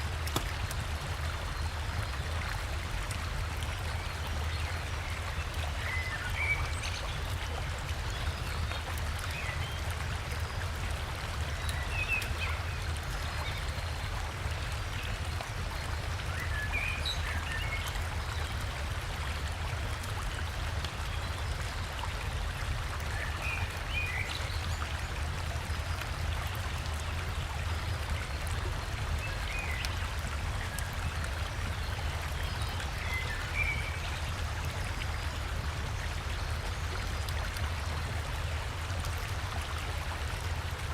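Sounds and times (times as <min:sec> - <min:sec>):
river and small waterfall flowing: 0:00.0 - 0:40.9.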